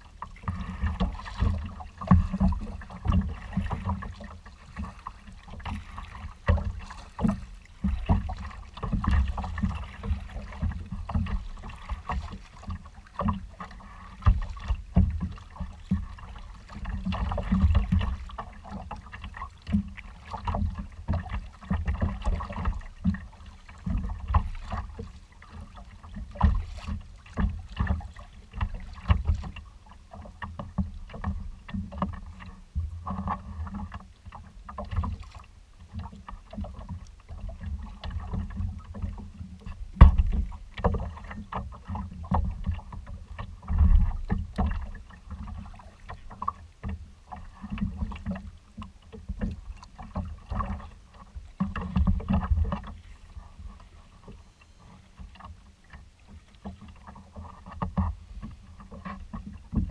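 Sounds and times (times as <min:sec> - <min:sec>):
water splashing against hull: 0:00.0 - 0:59.9.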